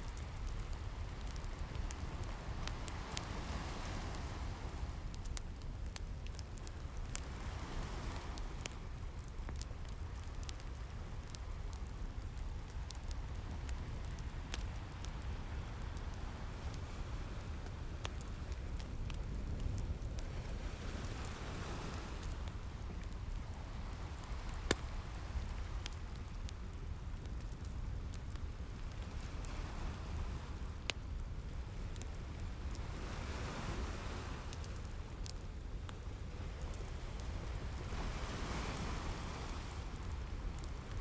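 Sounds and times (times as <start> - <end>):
fireplace crackling and popping: 0.0 - 41.0.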